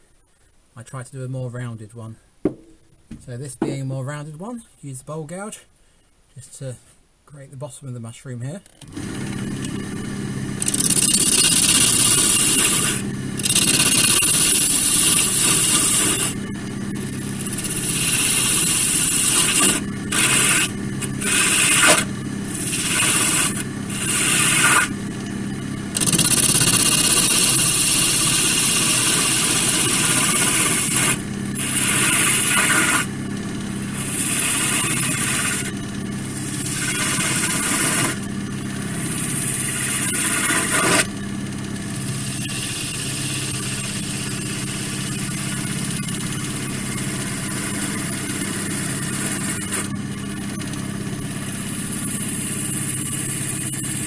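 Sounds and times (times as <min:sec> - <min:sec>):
gouge scraping spinning wood: 0:08.8 - 0:41.2, 0:41.8 - 0:54.0
wood lathe motor humming: 0:08.8 - 0:54.0.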